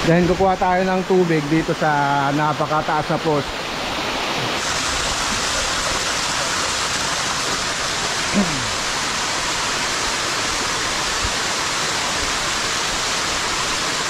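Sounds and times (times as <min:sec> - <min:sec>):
waterfall pouring over rocks: 0:00.0 - 0:14.0.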